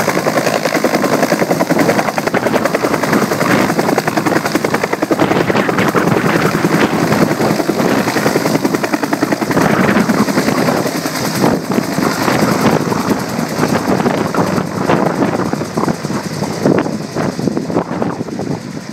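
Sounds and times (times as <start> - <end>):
helicopter rotor chopping: 0.0 - 18.9.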